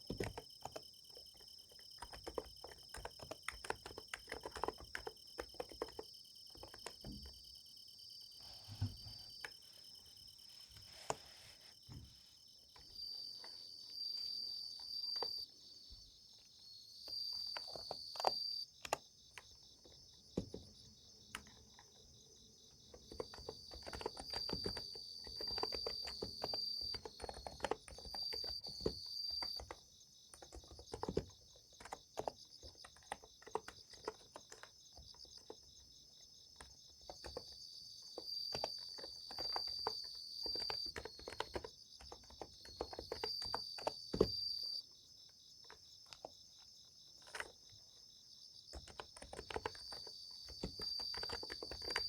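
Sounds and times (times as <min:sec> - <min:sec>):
soft keyboard typing: 0:00.0 - 0:15.5, 0:16.4 - 0:52.0
crickets trilling: 0:00.0 - 0:52.0
higher insect chirping: 0:00.0 - 0:52.0.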